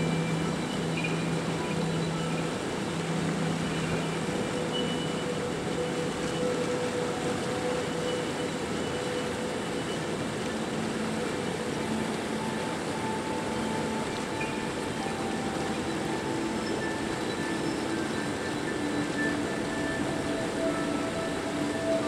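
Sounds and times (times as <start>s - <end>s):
ambient music held tones: 0.0s - 22.0s
river water rushing: 0.0s - 22.0s.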